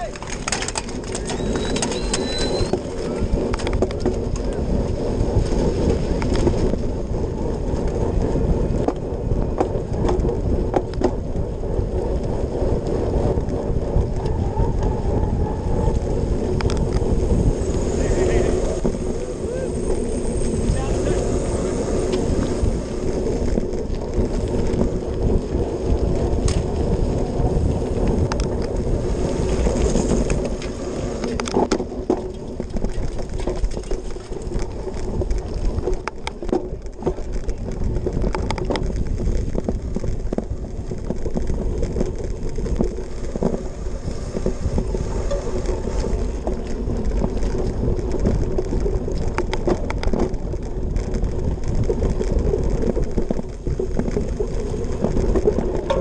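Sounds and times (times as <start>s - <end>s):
bike chain and frame rattling: 0.0s - 56.0s
bike tyres rolling: 0.0s - 56.0s
wind rushing over microphone: 0.0s - 56.0s.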